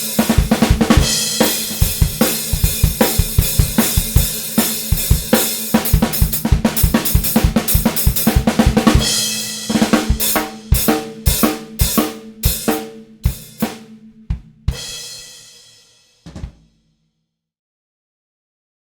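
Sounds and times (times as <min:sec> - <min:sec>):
drum kit playing: 0:00.0 - 0:16.8.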